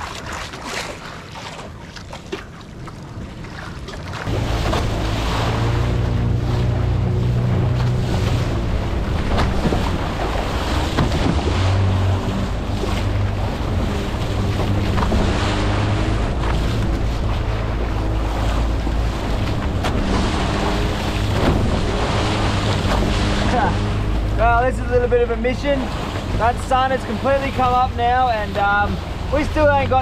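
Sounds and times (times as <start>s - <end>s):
water washing: 0.0s - 30.0s
low motor hum: 4.0s - 30.0s.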